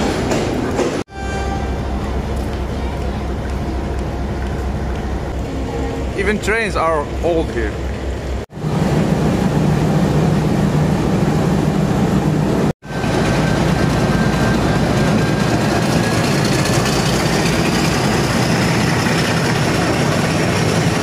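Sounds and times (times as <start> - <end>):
diesel train engine droning: 0.0 - 21.0.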